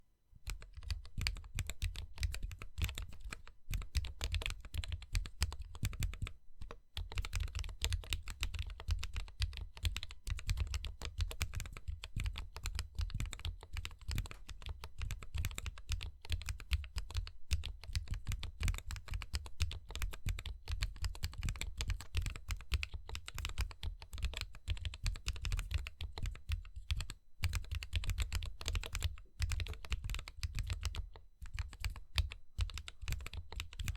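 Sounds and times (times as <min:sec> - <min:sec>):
fast typing on mechanical keyboard: 0:00.5 - 0:33.9.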